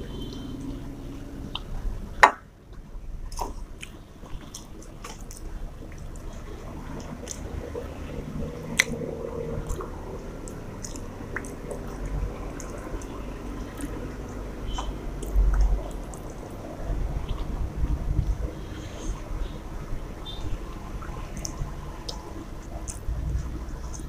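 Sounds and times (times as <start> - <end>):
chewing: 2.7 - 19.2, 21.1 - 24.0.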